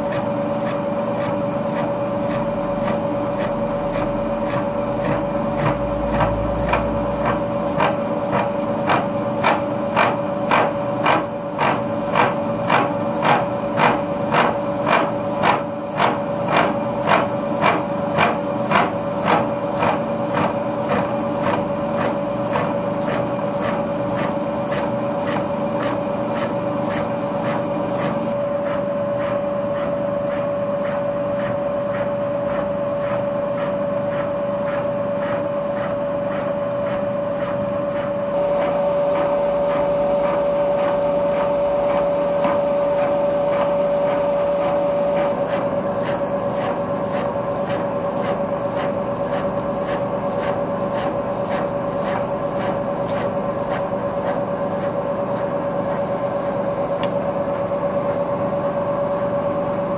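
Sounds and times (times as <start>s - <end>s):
milling saw whining through metal: 0.0s - 59.9s.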